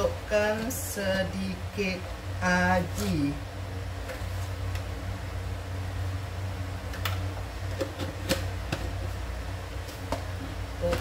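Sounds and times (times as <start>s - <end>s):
gas stove burner humming: 0.0s - 11.0s.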